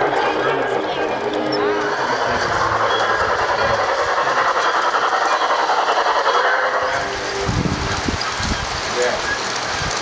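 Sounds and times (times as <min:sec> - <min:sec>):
model train wheels clacking: 0:00.0 - 0:10.0.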